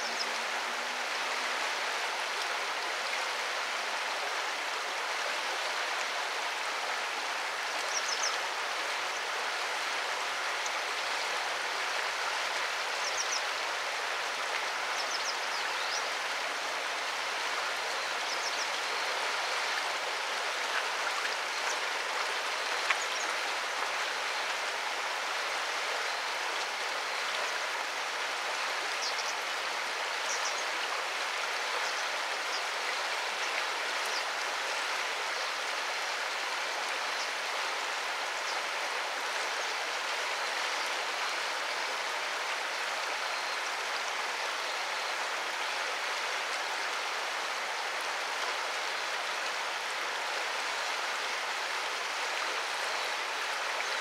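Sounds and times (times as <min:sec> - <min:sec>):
flowing river water: 0:00.0 - 0:54.0.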